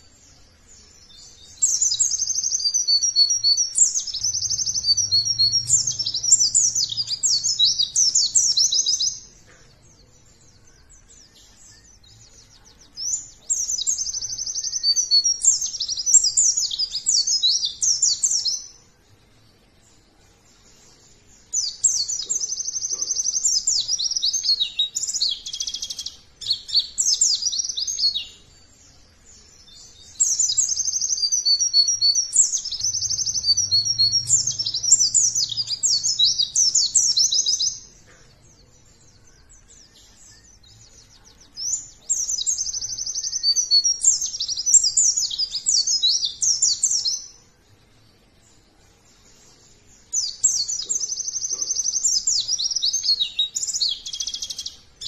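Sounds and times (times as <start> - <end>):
bird twittering song: 0.0 - 55.0.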